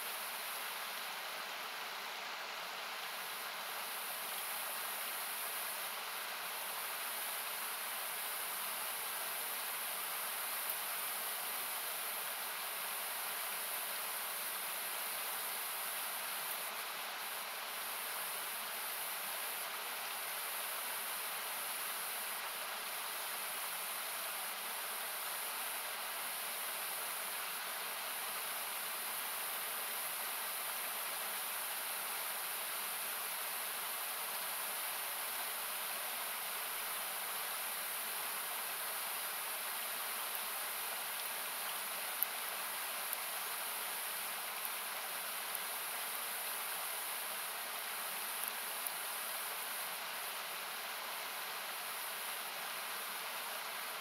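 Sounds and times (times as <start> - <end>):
faint campfire crackles: 0.0 - 54.0
rushing water: 0.0 - 54.0.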